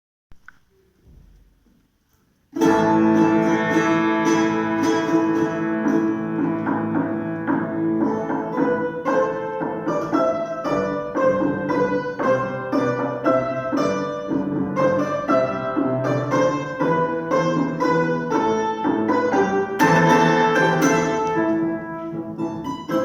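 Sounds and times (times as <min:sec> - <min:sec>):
plucked string duet music: 0:02.6 - 0:23.0.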